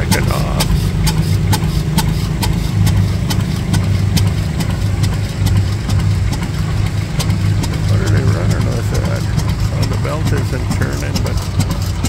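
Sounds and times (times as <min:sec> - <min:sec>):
sharp engine clicks: 0:00.0 - 0:12.0
stationary engine chugging: 0:00.0 - 0:12.0.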